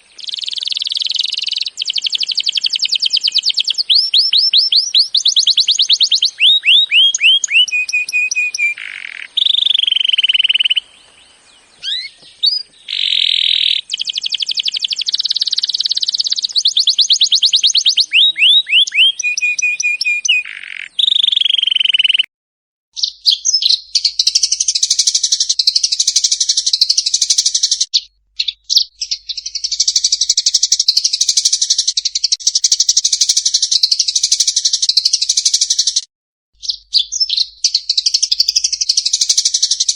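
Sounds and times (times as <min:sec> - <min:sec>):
high chattering bird song: 0:00.0 - 0:22.3, 0:23.0 - 0:39.9
songbird whistled notes and trills: 0:00.1 - 0:22.3, 0:23.0 - 0:39.9.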